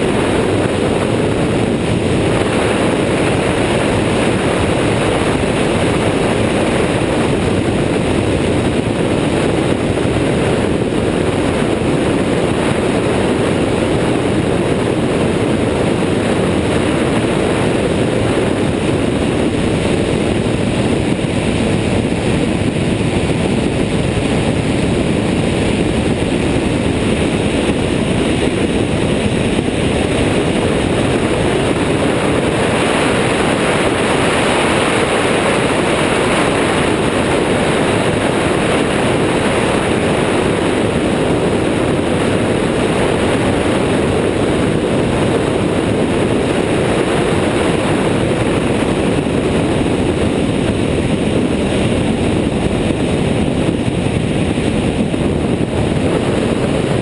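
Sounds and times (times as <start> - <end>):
aircraft engine and propeller: 0.0 - 57.0
wind rush on microphone: 0.0 - 57.0.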